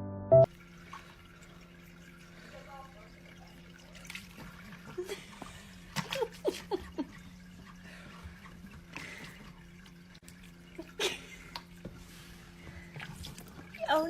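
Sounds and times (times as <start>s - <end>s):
water dripping: 0.4s - 14.0s.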